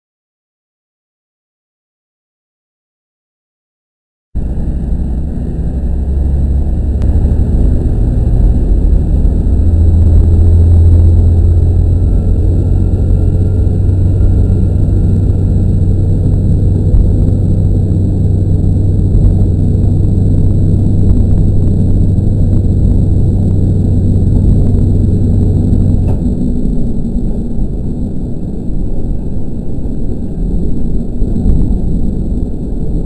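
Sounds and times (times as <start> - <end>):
railcar diesel engine rumble: 4.4 - 33.0.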